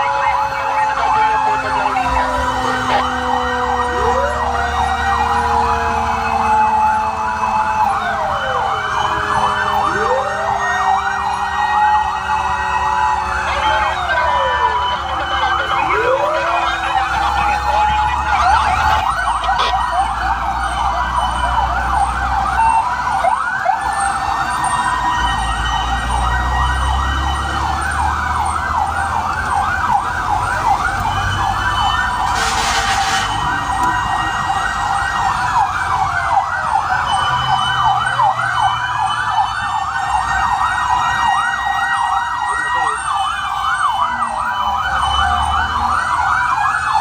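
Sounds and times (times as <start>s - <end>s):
fire truck sirens: 0.0s - 47.0s.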